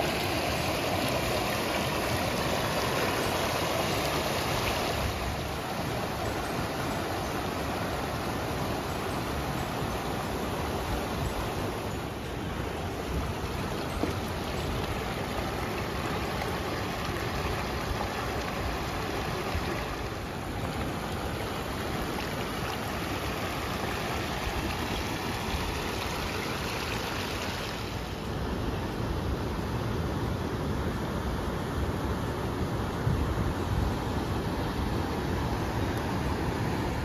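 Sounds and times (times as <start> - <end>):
river rushing over rapids: 0.0 - 37.0.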